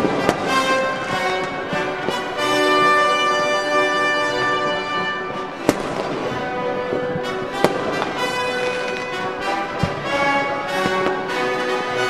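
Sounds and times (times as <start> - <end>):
orchestral music with brass: 0.0 - 12.0
sharp crack: 0.0 - 12.0.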